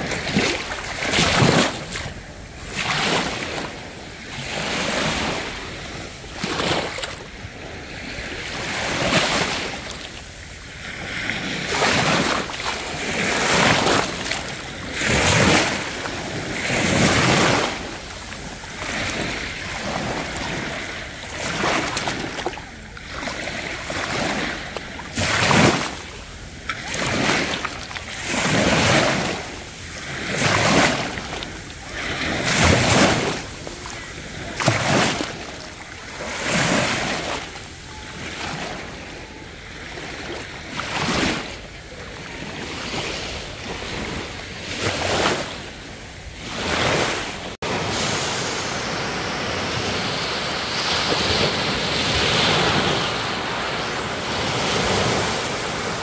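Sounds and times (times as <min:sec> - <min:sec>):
sea waves breaking: 0:00.0 - 0:56.0.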